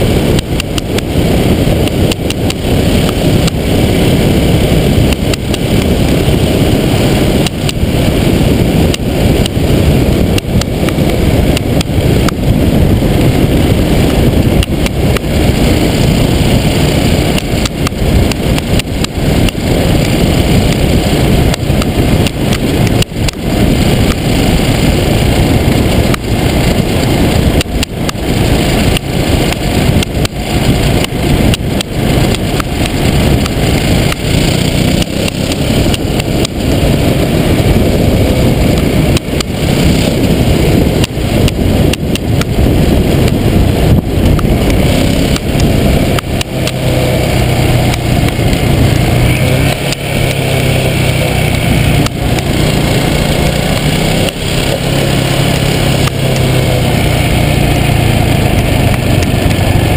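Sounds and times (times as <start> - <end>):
motorcycle engine: 0.0 - 59.9
wind rumble on microphone: 0.0 - 59.9.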